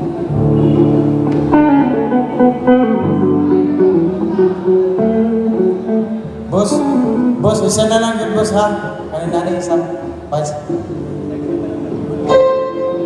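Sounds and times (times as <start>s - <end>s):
electric guitar: 0.0s - 13.0s
sustained keyboard chords: 0.0s - 13.0s.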